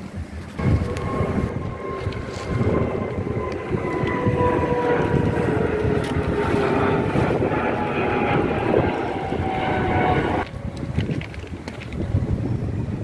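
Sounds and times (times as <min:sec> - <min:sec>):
mechanical drone: 0:00.0 - 0:13.0
low rumble: 0:00.2 - 0:13.0.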